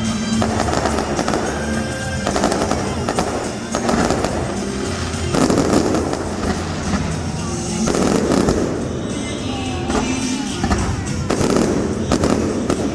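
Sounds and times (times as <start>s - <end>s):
fireworks bursting and crackling: 0.0s - 12.9s
music playing: 0.0s - 12.9s.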